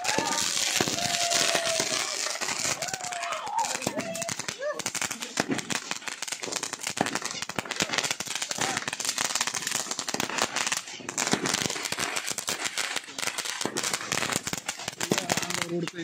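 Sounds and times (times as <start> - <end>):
firecrackers popping: 0.0 - 16.0
group of people talking: 0.0 - 16.0.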